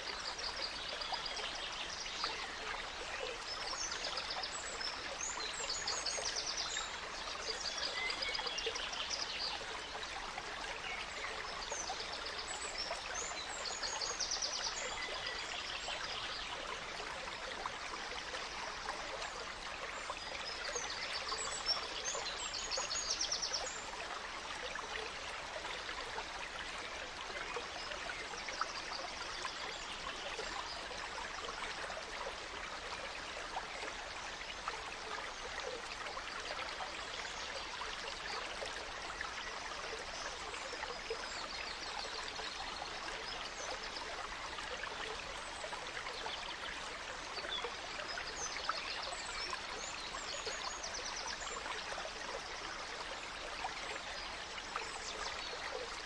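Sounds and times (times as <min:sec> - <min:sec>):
gentle stream running: 0:00.0 - 0:56.0.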